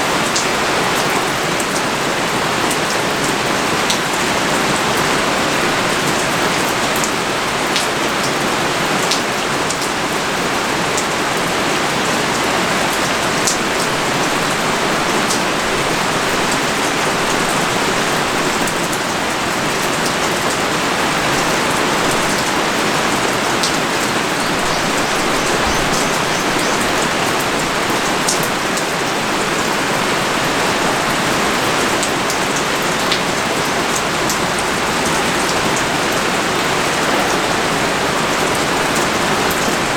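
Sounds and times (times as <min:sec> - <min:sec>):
pouring rain: 0:00.0 - 0:39.9.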